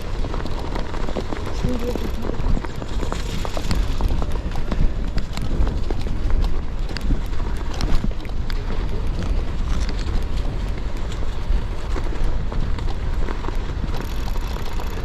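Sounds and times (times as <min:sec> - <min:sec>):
bike tyres crunching on icy snow: 0:00.0 - 0:15.0.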